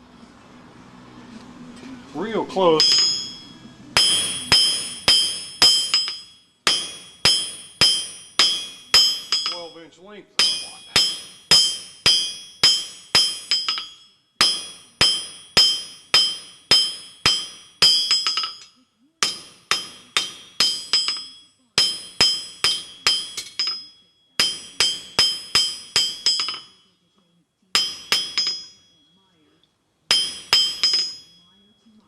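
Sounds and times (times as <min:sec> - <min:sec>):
anvil ringing: 0:02.6 - 0:26.9, 0:27.8 - 0:29.2, 0:30.1 - 0:31.8
hammer striking steel on anvil: 0:02.7 - 0:26.9, 0:27.7 - 0:29.2, 0:30.1 - 0:31.7.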